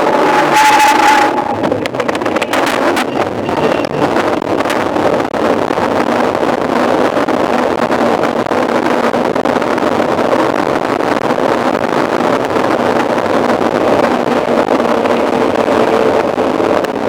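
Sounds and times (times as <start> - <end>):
bike rolling noise: 0.0 - 17.0
wind rushing over microphone: 0.0 - 17.0.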